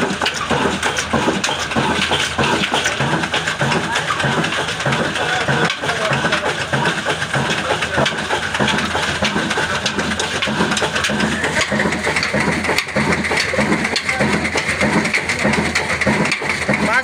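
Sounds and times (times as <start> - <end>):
diesel engine knocking: 0.0 - 17.0.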